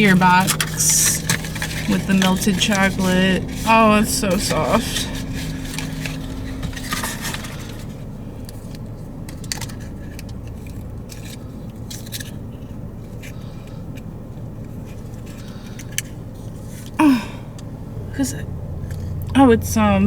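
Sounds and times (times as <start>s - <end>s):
cardboard and wrapper crinkling: 0.0s - 17.2s
low hum: 0.0s - 20.0s.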